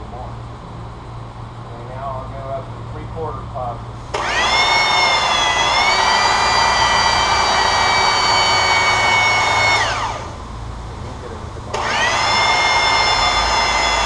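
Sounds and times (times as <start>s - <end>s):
hydraulic pump whine: 0.0s - 14.0s.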